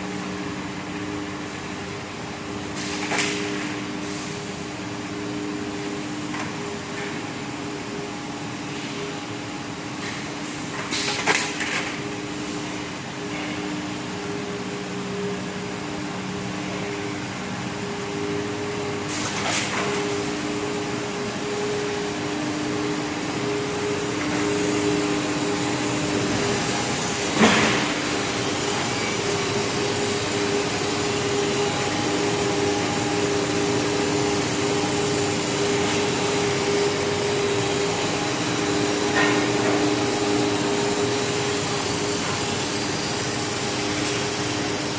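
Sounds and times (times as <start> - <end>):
machinery hum and hiss: 0.0 - 44.9.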